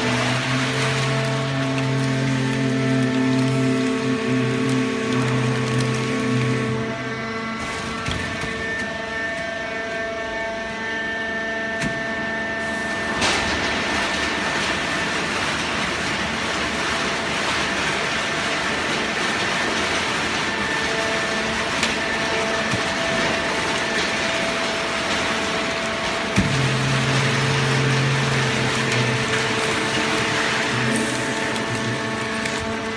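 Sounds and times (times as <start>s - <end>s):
hydraulic press whine: 0.0s - 32.9s.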